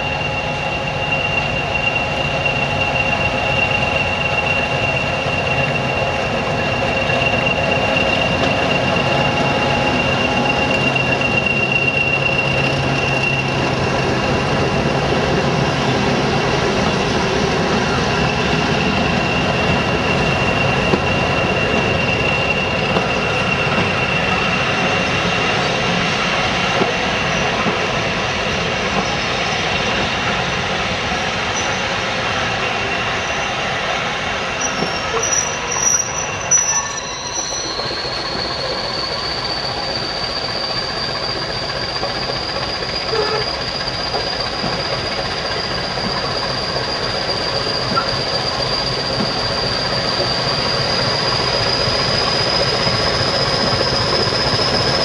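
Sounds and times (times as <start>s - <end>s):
high wheel flange squeal: 0.0s - 55.0s
train wheels on rails: 0.0s - 55.0s.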